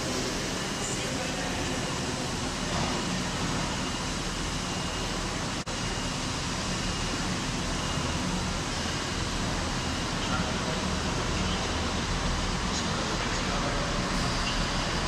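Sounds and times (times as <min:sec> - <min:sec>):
train running into platform: 0:00.0 - 0:15.0.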